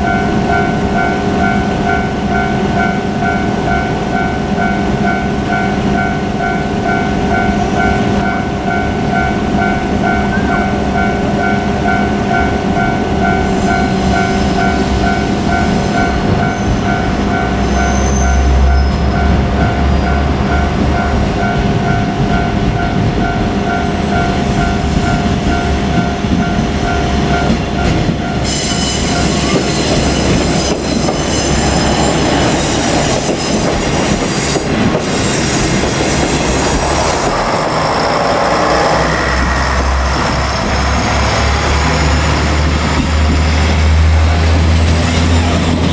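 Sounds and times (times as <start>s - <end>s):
diesel railcar engine rumble: 0.0s - 45.9s
level crossing warning bell: 0.0s - 45.9s
train wheels on rails: 0.0s - 45.9s.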